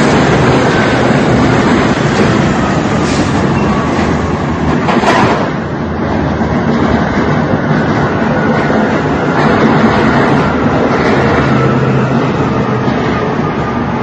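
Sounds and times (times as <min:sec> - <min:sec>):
armoured vehicles rumbling: 0:00.0 - 0:14.0.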